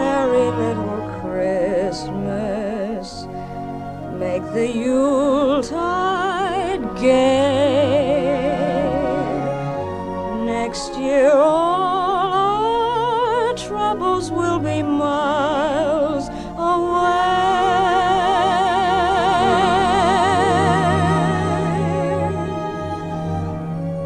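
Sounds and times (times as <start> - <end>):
person singing with vibrato: 0.0 - 3.2, 4.2 - 23.8
low sustained accompaniment: 0.0 - 24.0.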